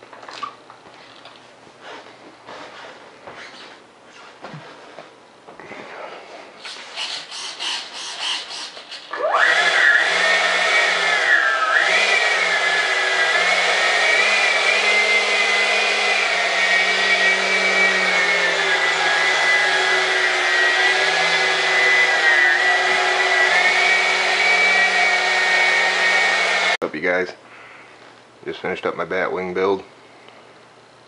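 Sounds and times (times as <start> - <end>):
electric ducted fan whining: 0.0 - 31.0.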